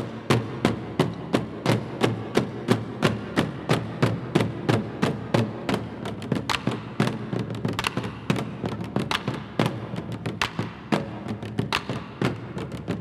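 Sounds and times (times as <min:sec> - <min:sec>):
barrel drums struck with sticks: 0:00.0 - 0:13.0.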